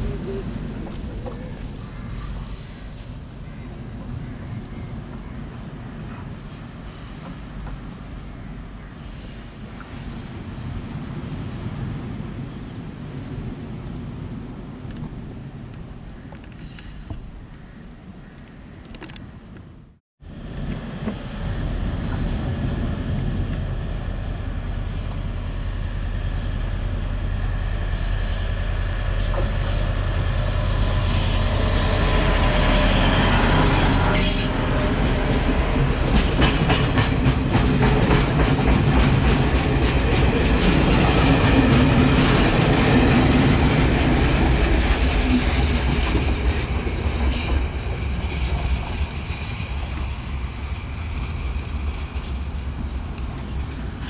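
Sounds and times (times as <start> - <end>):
diesel train engine drone: 0.0 - 10.0, 20.2 - 54.0.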